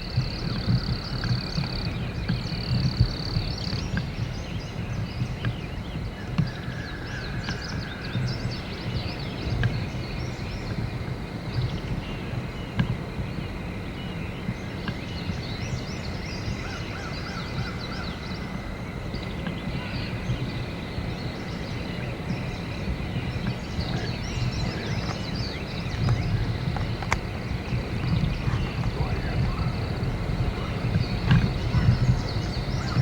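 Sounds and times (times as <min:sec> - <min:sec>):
small birds chirping: 0:00.0 - 0:33.0
wind rumble on microphone: 0:00.0 - 0:33.0.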